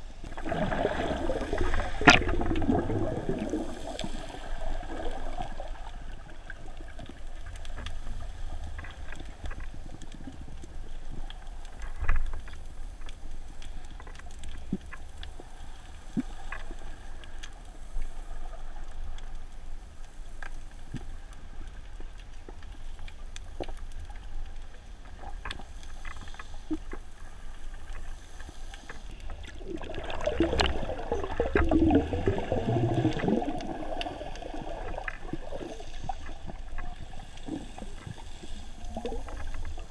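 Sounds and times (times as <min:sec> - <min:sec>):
gurgling water: 0:00.0 - 0:17.5, 0:20.9 - 0:39.9
underwater rush of water: 0:00.0 - 0:39.9.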